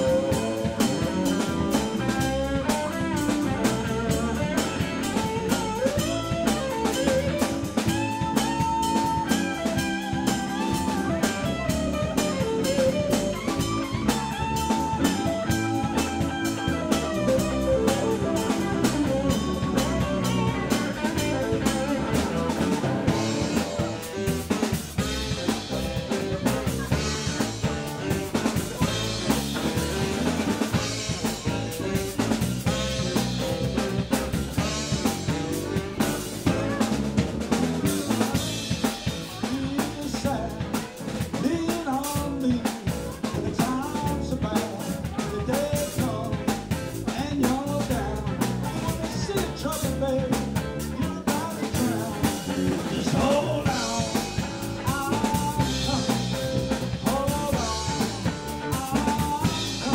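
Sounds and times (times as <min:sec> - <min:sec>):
bass guitar: 0:00.0 - 0:59.9
drum kit snare and rimshot hits: 0:00.0 - 0:59.9
sliding lead melody: 0:00.0 - 0:59.9.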